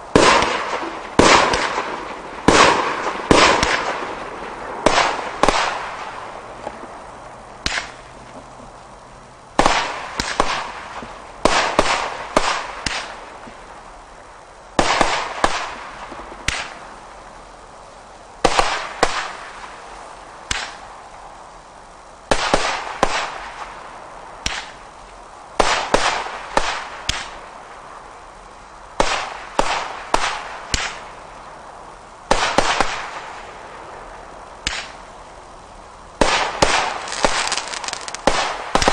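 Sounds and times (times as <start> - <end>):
firework bangs and crackle: 0.0 - 8.7, 9.5 - 38.9.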